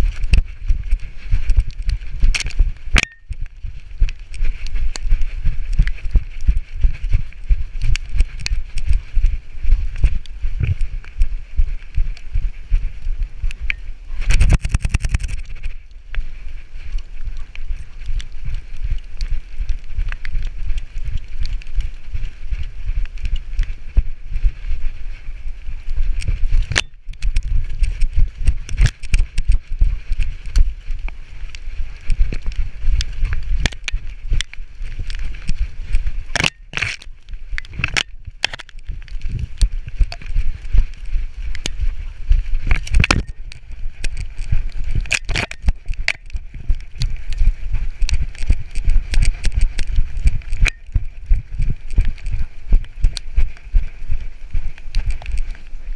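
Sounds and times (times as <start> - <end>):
leaves crackling underfoot: 0.0 - 55.9.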